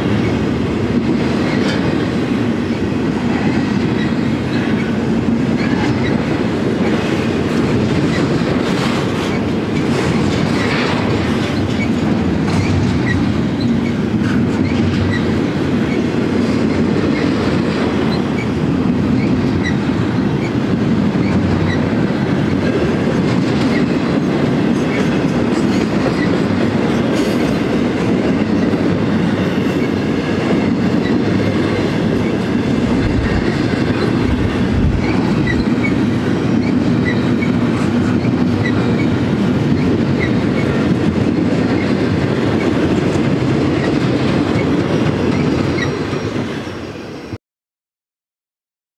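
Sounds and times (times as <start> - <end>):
train wheels rumbling on rails: 0.0 - 47.4.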